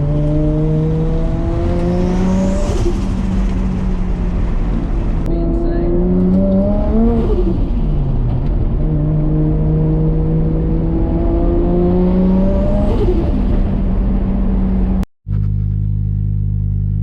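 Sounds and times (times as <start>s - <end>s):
turbocharged car engine accelerating: 0.0s - 17.0s.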